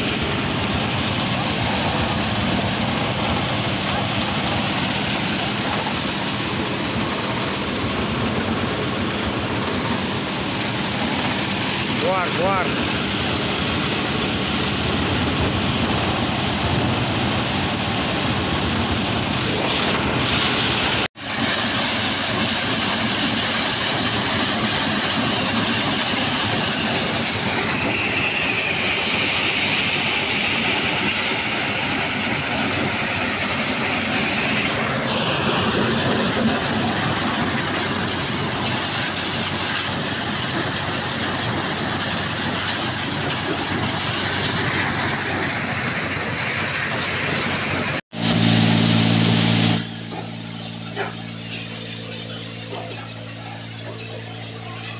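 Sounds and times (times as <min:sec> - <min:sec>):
grain thresher clattering: 0:00.0 - 0:54.9
tractor engine: 0:00.0 - 0:54.9.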